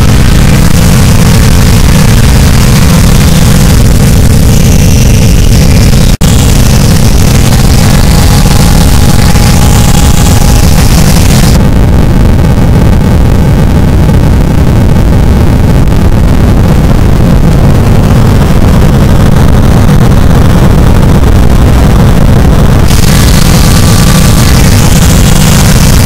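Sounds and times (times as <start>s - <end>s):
harsh distorted noise music: 0.0s - 26.0s.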